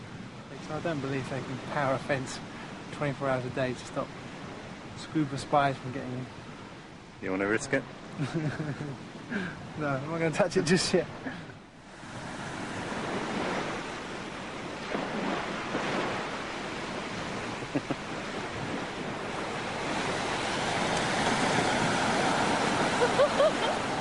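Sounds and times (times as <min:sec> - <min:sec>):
waves breaking on beach: 0:00.0 - 0:24.0.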